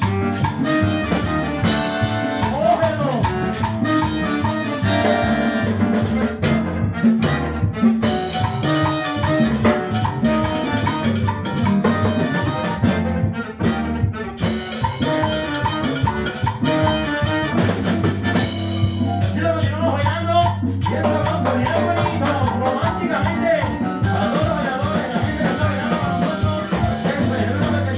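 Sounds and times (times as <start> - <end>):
hand percussion: 0.0 - 13.0, 14.4 - 27.9
brass section playing melody: 0.0 - 27.9
drum kit: 0.0 - 27.9.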